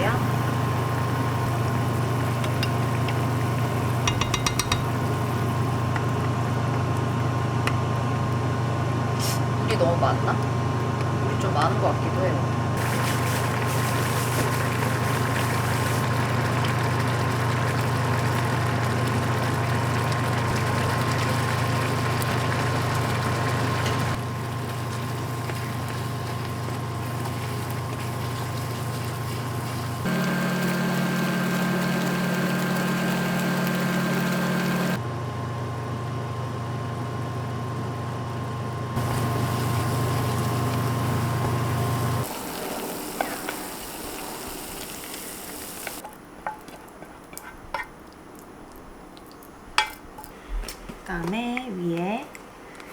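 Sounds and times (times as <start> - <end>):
appliance motor hum: 0.0 - 46.0.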